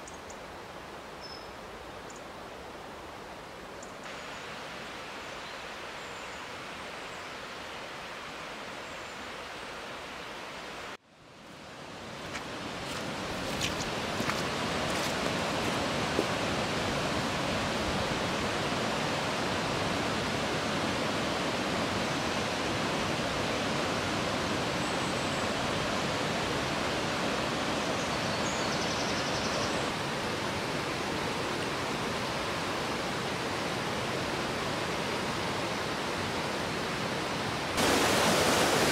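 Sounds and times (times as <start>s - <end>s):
river rushing: 0.4s - 38.9s.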